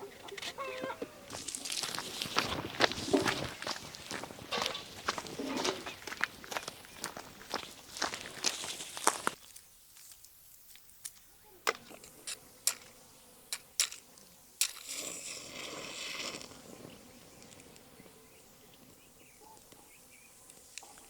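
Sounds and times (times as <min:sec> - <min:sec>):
rustling hiss: 0:01.1 - 0:21.0.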